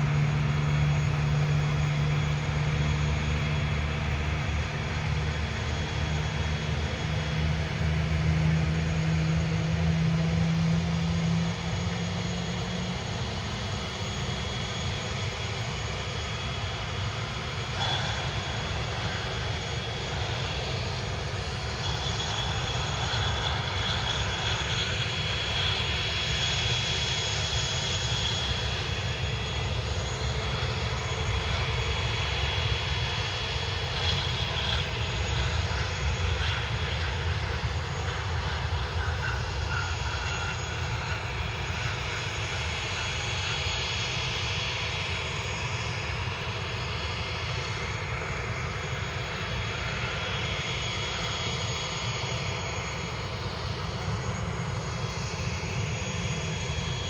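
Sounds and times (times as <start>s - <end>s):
airliner engines whining: 0.0s - 57.0s.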